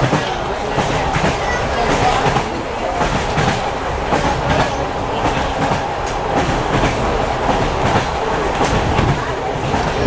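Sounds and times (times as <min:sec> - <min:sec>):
rolling rumble of train carriage: 0:00.0 - 0:10.0
train wheels clacking over rail joints: 0:00.0 - 0:10.0.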